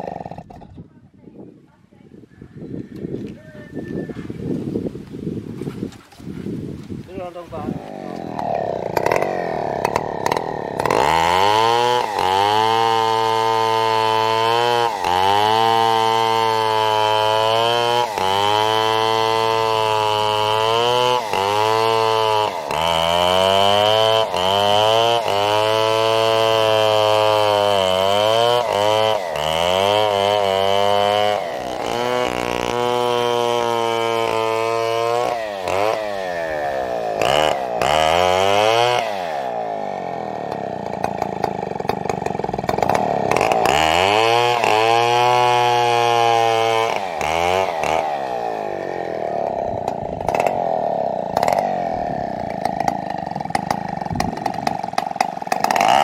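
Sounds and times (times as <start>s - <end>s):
chainsaw cutting wood: 0.0s - 0.8s, 4.9s - 56.0s.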